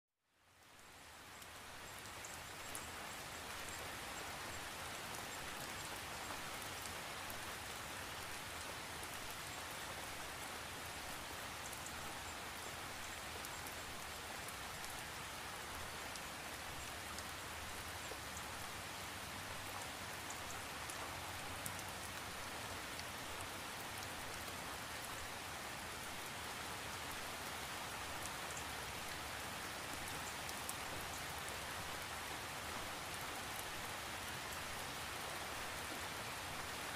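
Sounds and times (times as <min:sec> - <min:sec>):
steady rain: 0:00.2 - 0:36.9.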